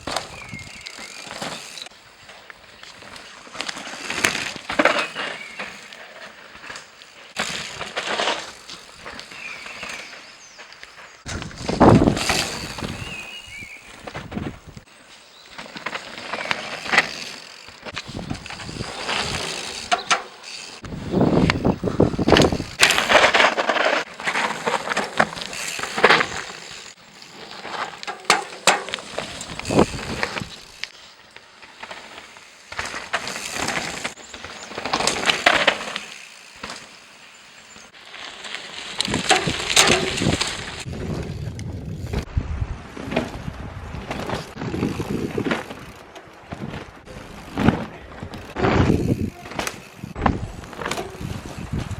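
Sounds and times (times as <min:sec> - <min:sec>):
bike rattling over bumps: 0:00.0 - 0:51.9
mountain bike on dirt trail: 0:00.0 - 0:51.9.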